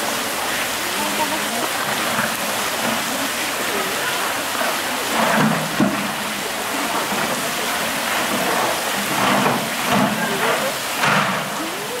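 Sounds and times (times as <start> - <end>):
onlookers chattering: 0.0 - 12.0
running water rushing: 0.0 - 12.0.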